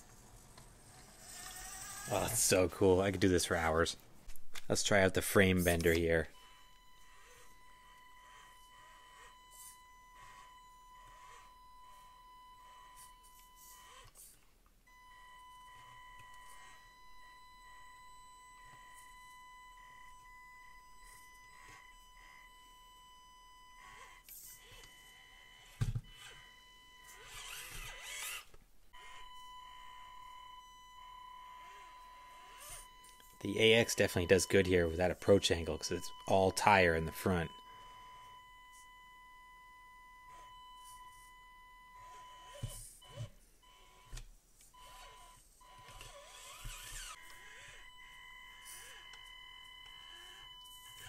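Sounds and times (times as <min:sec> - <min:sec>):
toy car motor whining: 0:00.0 - 0:02.6, 0:05.6 - 0:14.4, 0:15.8 - 0:30.2, 0:31.4 - 0:38.0, 0:40.2 - 0:51.0.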